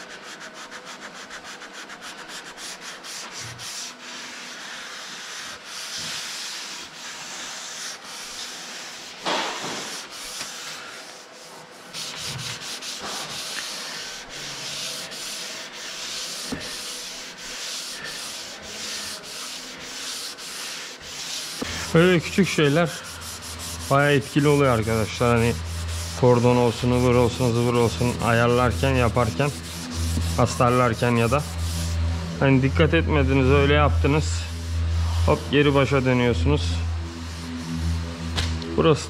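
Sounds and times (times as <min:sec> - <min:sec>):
sandpaper rubbing body filler: 0:00.0 - 0:39.0.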